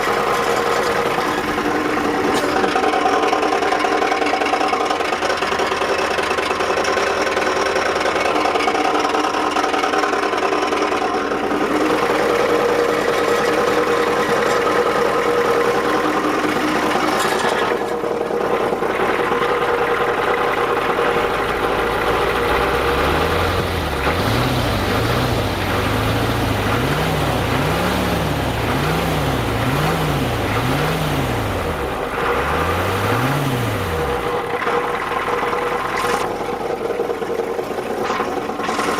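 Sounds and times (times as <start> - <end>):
diesel engine grinding noise: 0.0 - 38.9.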